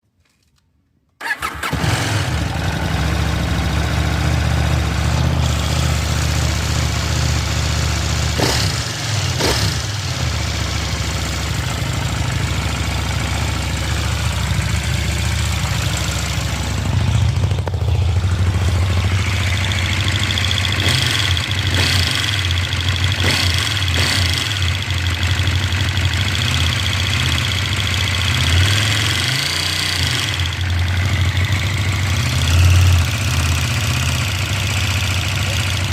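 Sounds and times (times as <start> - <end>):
engine clicking and rattling: 1.2 - 35.9
motorcycle engine idling: 1.2 - 35.9.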